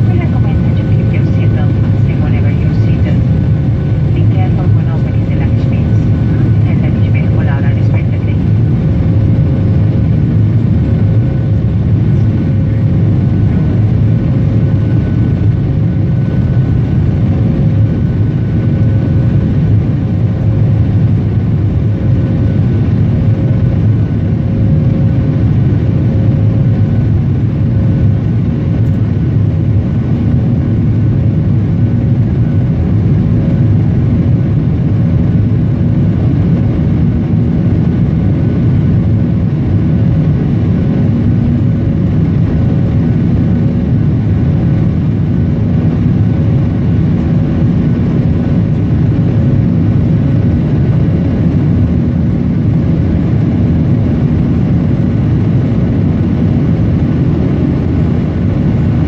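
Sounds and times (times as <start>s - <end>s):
jet engine rumble: 0.0s - 59.0s.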